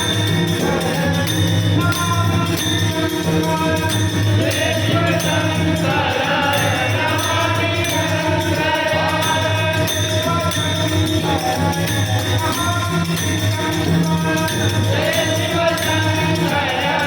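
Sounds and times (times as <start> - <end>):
group of voices singing: 0.0 - 17.0
jingling metal percussion: 0.0 - 17.0.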